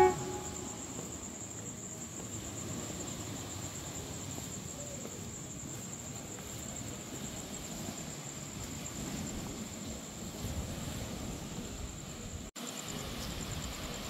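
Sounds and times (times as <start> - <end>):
insects droning: 0.0 - 14.0
low outdoor ambient noise: 0.0 - 14.0.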